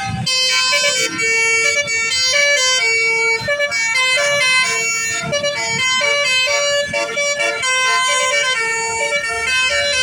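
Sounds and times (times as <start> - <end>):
musical air horn playing a tune: 0.0 - 10.0.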